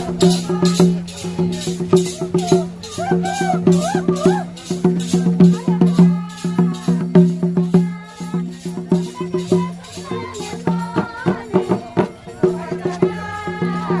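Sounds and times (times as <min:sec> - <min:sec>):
rattle or shaker: 0:00.0 - 0:14.0.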